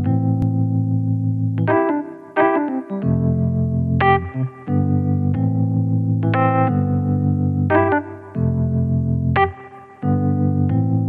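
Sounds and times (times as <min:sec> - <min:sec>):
background music with chords: 0:00.0 - 0:11.0.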